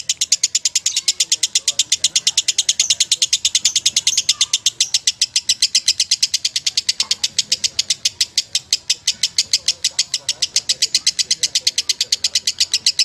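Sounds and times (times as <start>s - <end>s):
lovebird chirping rapidly: 0.0s - 13.0s.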